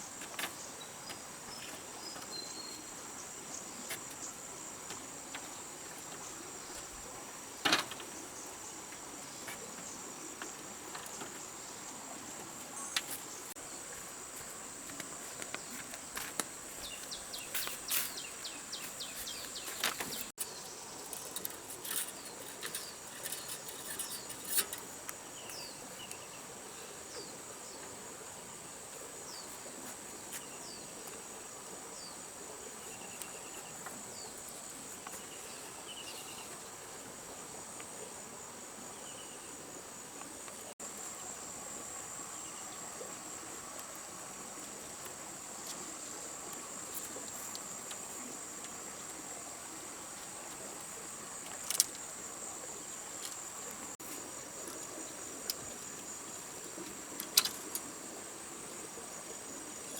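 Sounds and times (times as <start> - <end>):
crickets and insects chorus: 0.0 - 59.9.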